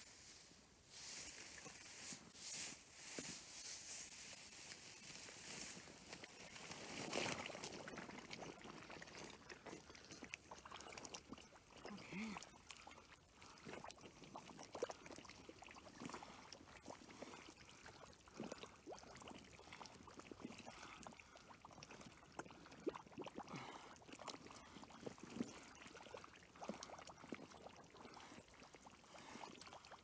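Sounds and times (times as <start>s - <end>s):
water sloshing and trickling: 0.9s - 3.2s, 3.9s - 30.0s
small splashes: 5.6s - 30.0s.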